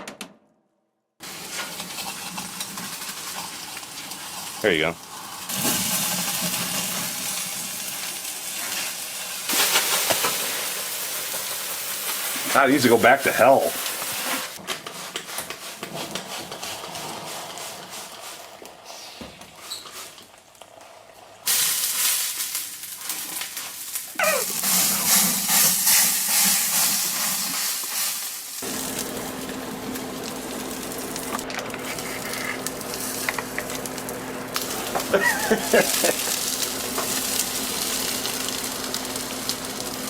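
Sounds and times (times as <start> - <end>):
crackling in a microwave oven: 1.2 - 14.2, 20.2 - 40.0.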